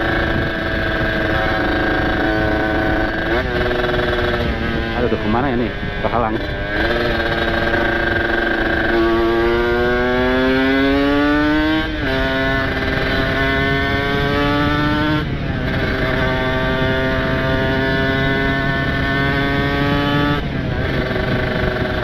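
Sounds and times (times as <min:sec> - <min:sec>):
two-stroke motorcycle engine accelerating: 0:00.0 - 0:22.0.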